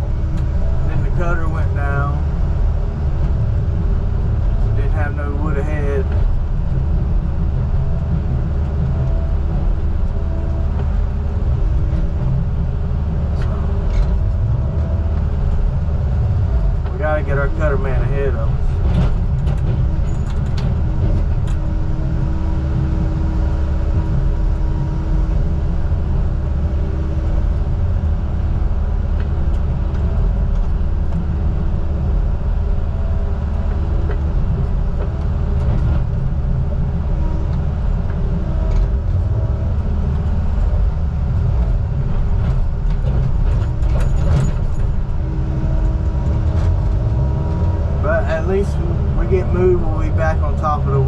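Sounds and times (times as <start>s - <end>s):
heavy truck engine running: 0.0s - 51.0s.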